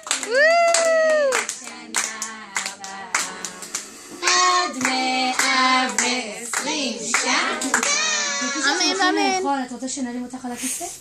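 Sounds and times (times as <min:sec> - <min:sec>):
group clapping: 0:00.0 - 0:09.0
children and women singing: 0:00.0 - 0:09.5.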